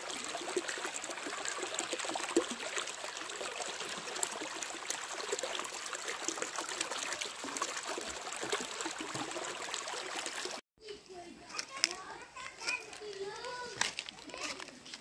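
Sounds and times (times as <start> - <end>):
stream trickling over stones: 0.0 - 10.6, 11.6 - 15.0.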